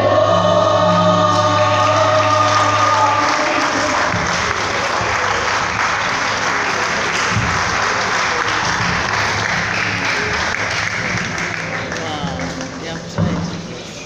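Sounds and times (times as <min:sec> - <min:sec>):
low music: 0:00.0 - 0:14.0
audience applauding: 0:01.3 - 0:13.9.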